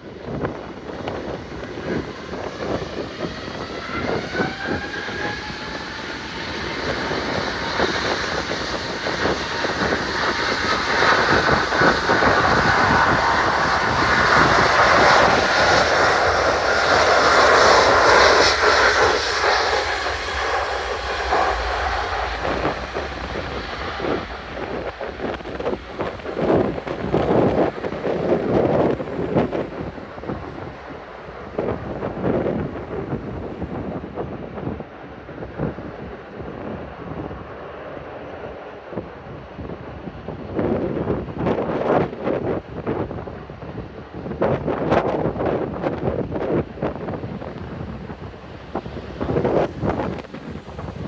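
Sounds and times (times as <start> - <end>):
jet aircraft taking off: 0.0 - 51.0
wind buffeting microphone: 0.0 - 51.0.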